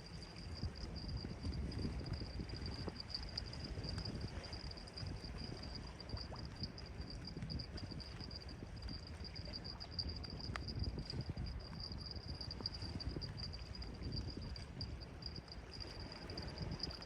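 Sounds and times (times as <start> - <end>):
insects trilling: 0.0 - 17.0
low rumble of the sea: 0.0 - 17.0.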